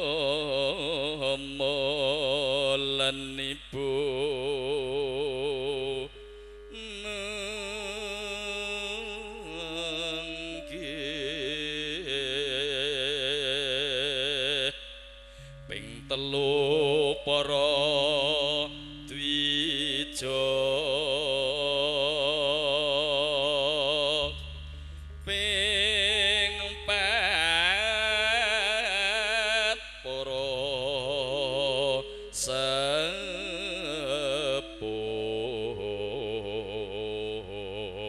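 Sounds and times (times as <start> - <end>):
sustained accompaniment: 0.0 - 37.8
solo voice chanting: 0.0 - 38.0.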